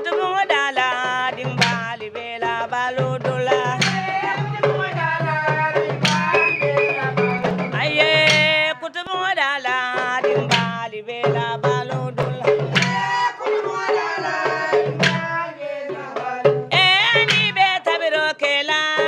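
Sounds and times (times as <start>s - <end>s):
hand drum and percussion beats: 0.0s - 19.0s
person singing ornamented phrases: 0.0s - 19.0s.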